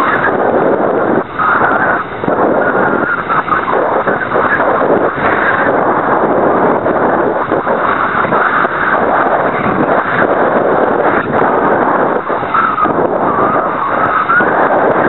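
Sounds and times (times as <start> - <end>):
faint whine: 0.0 - 15.0
wind over microphone: 0.0 - 15.0.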